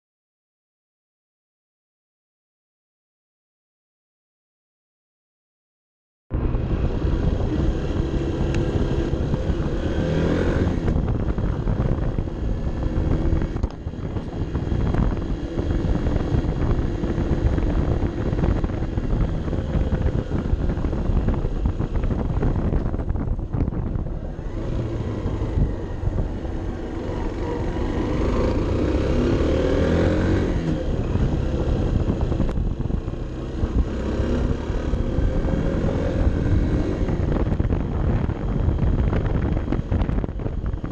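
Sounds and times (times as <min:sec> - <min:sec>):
motorcycle engine running: 0:06.3 - 0:40.9
wind rushing over microphone: 0:06.3 - 0:40.9.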